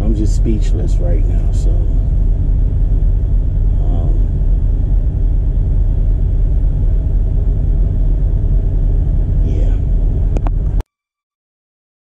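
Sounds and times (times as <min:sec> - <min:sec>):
truck engine idling: 0:00.0 - 0:10.8.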